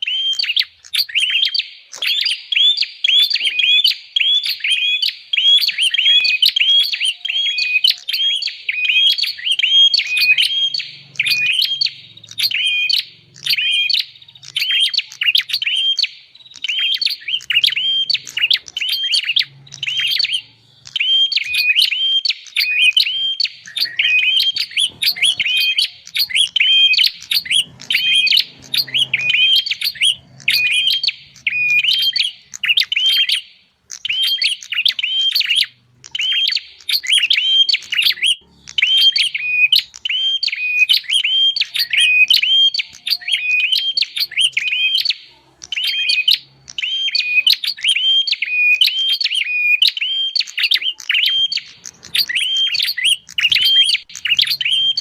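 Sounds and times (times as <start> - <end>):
bird chirping rapidly: 0.0 - 55.0.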